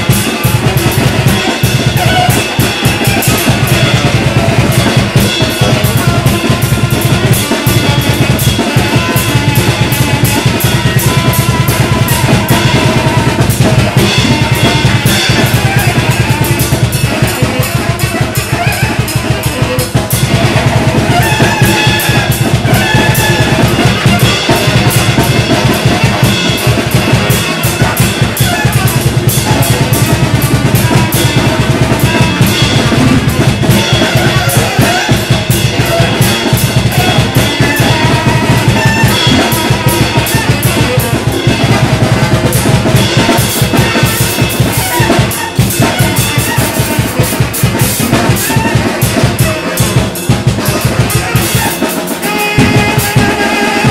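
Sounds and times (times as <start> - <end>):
rapid drum kit playing: 0.0 - 53.9
tenor saxophone: 0.0 - 53.9.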